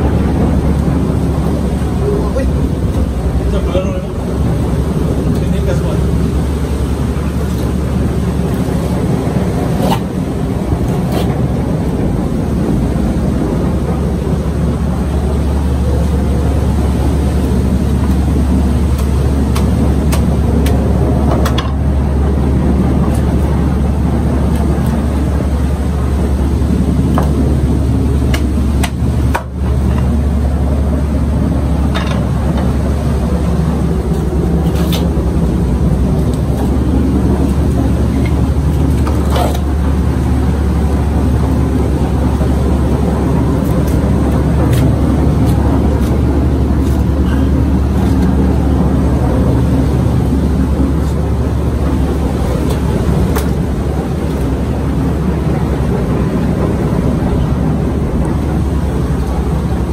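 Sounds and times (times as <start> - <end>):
low mechanical drone: 0.0 - 59.9.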